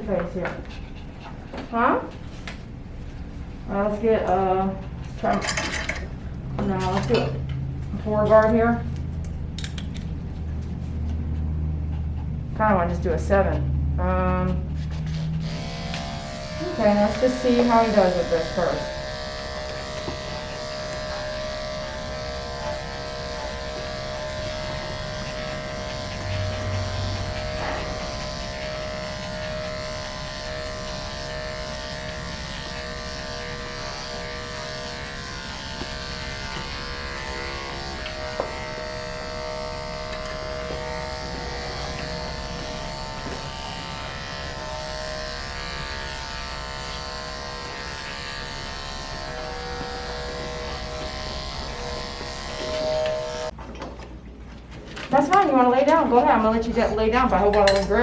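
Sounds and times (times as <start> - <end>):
electric clippers buzzing: 3.7 - 10.2, 15.1 - 53.6, 55.2 - 58.0.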